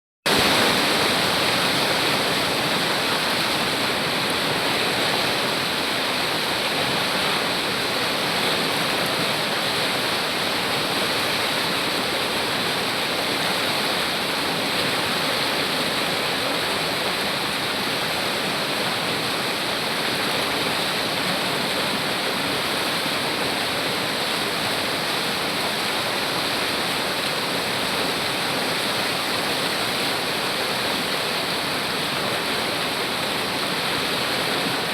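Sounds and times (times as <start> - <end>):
river water rushing: 0.3 - 34.9.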